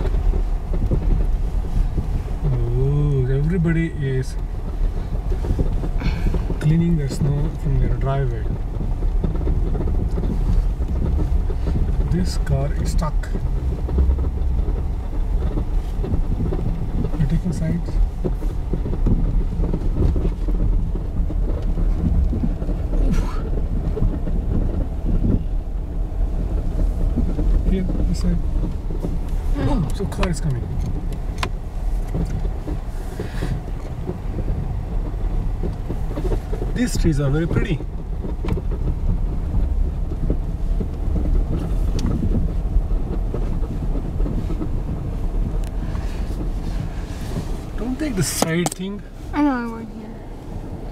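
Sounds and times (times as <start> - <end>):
car rumbling over snow: 0.0 - 50.9
tyres crunching through snow: 0.0 - 50.9.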